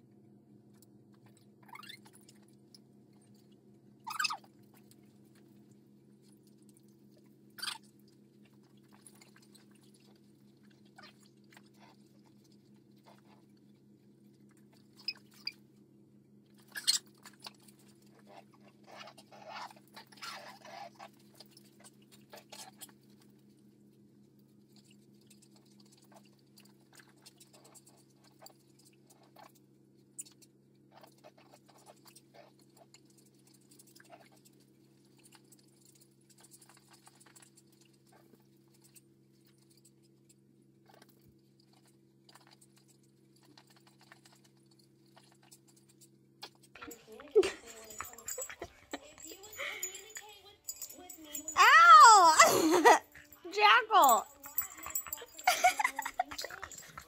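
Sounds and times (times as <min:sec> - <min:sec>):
faint low hum: 0:00.0 - 0:57.0
puppy chewing and scuffling: 0:00.6 - 0:57.0.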